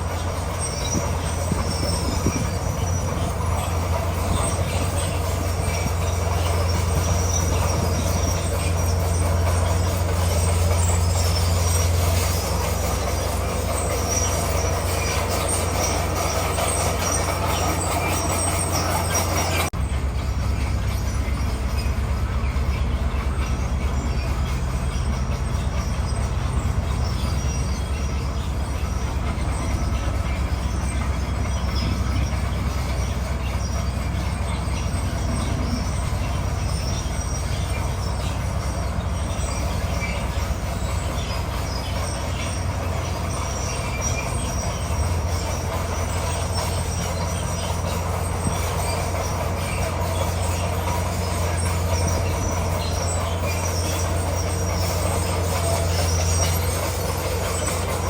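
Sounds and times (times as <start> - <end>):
diesel engine droning: 0.0 - 58.0
steel tracks squealing and clanking: 0.0 - 58.0.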